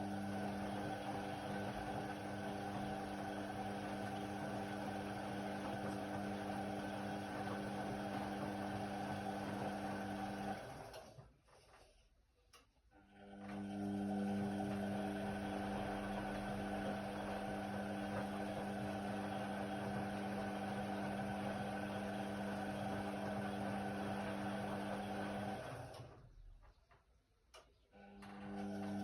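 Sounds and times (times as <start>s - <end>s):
washer-dryer humming and whirring: 0.0s - 11.7s, 12.9s - 26.4s, 27.9s - 29.0s.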